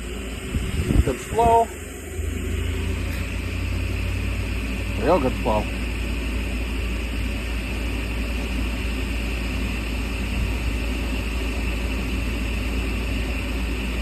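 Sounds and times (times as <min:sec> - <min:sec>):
furnace fan humming: 0:00.0 - 0:14.0.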